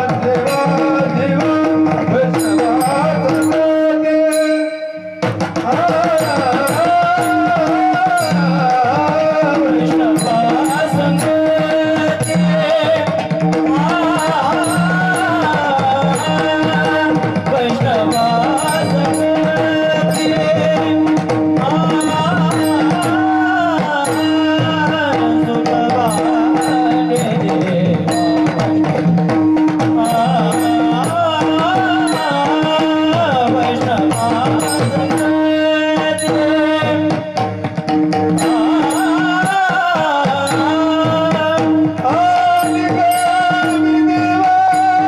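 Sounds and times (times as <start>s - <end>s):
hand drum: 0.0s - 45.0s
man singing: 0.0s - 45.0s
small hand cymbals: 0.4s - 45.0s.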